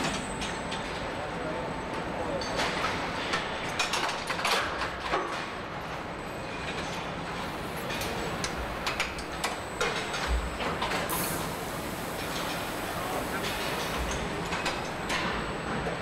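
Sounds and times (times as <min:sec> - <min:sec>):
machinery hum: 0:00.0 - 0:03.9, 0:05.8 - 0:16.0.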